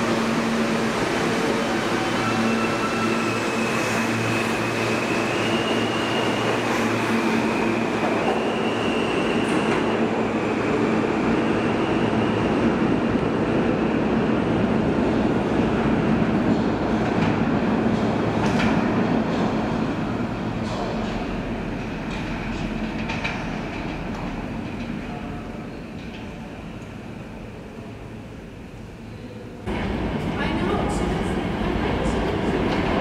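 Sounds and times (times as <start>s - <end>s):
train wheels rumbling on rails: 0.0s - 28.1s, 29.7s - 33.0s.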